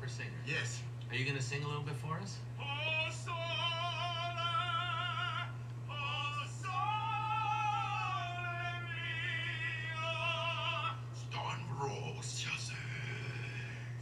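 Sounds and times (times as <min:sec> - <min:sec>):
operatic singing with vibrato: 0:02.6 - 0:14.0.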